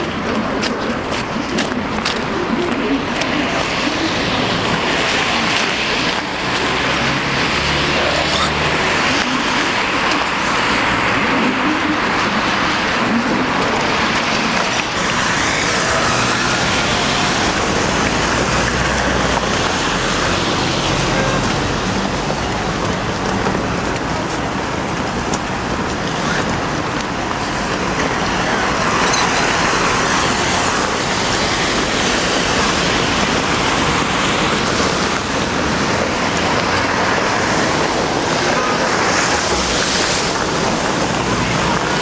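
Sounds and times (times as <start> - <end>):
cars driving on slushy road: 0.0 - 42.0.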